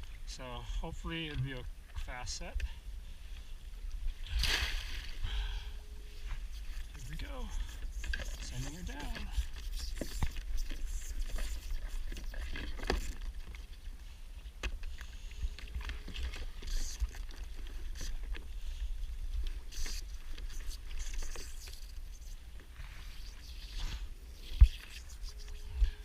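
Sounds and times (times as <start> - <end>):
water lapping around a kayak: 0.0 - 26.0.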